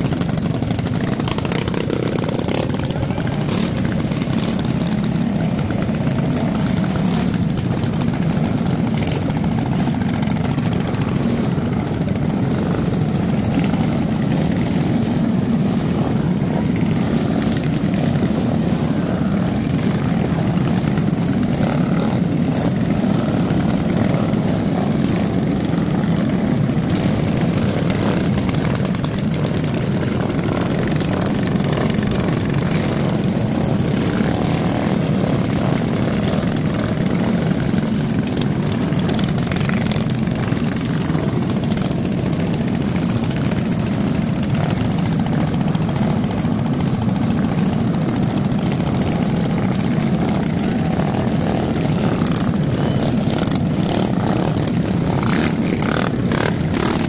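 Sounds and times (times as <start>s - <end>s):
mini-bike engines buzzing: 0.0s - 57.0s.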